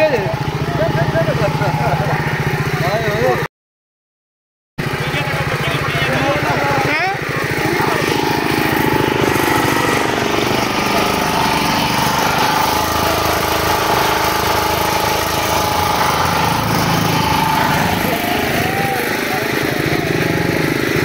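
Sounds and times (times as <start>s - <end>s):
petrol generator running: 0.0s - 3.5s, 4.8s - 21.0s.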